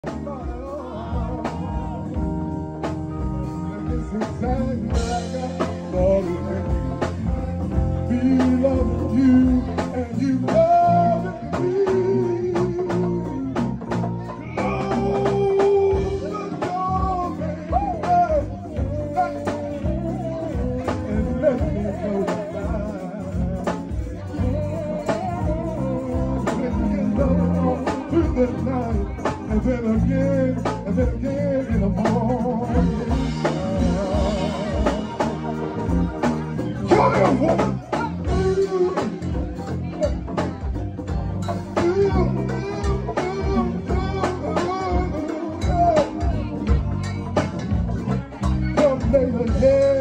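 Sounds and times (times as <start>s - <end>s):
drums keeping a beat: 0.0s - 50.0s
electric guitars: 0.0s - 50.0s
people singing: 0.0s - 50.0s.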